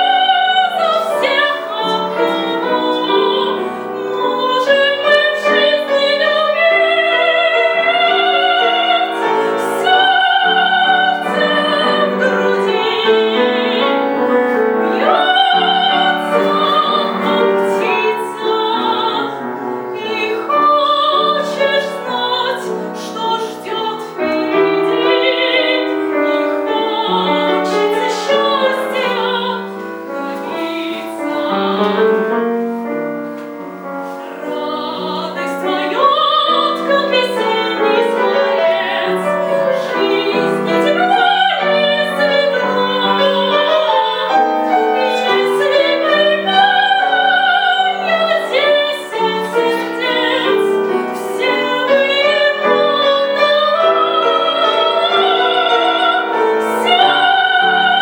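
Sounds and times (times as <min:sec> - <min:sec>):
woman singing operatically: 0:00.0 - 0:32.2, 0:34.2 - 0:58.0
piano: 0:00.0 - 0:58.0.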